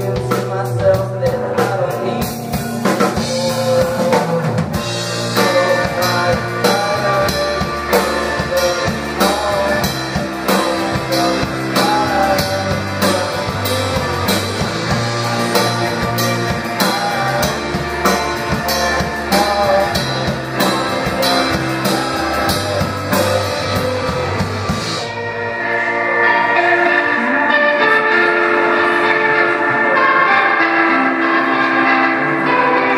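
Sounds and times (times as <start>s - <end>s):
bass guitar: 0.0s - 32.9s
drum kit beating: 0.0s - 32.9s
electric guitars: 0.0s - 32.9s.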